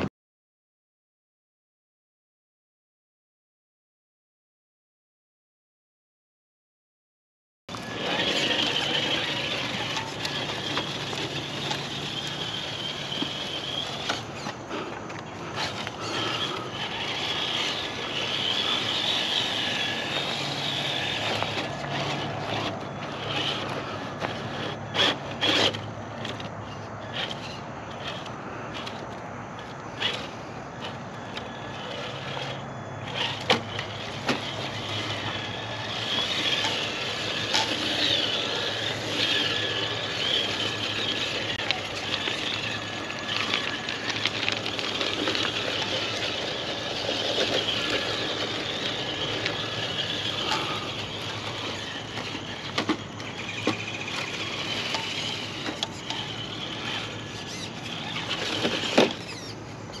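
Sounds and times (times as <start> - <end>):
electric motor whining: 7.7 - 26.4, 27.0 - 60.0
tyres and chassis clicks and knocks: 7.7 - 60.0.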